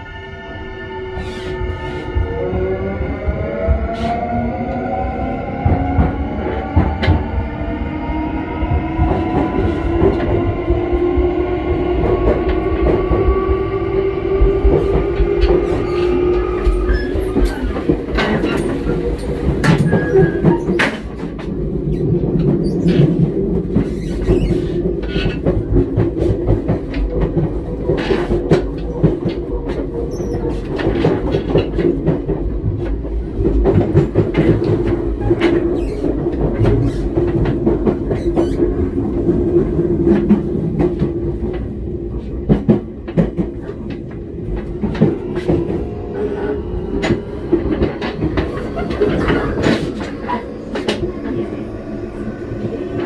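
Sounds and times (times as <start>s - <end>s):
electric train running drone: 0.0s - 53.0s.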